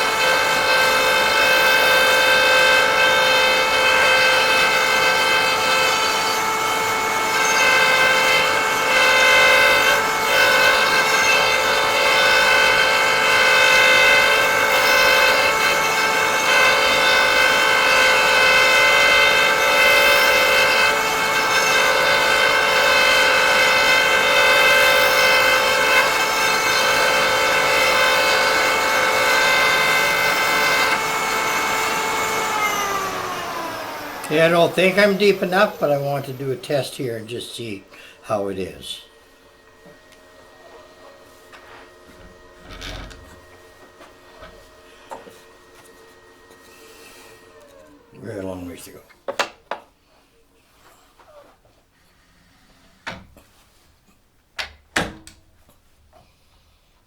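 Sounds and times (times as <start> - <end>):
cutter motor whining: 0.0 - 49.0
wood cutting noise: 0.0 - 51.6.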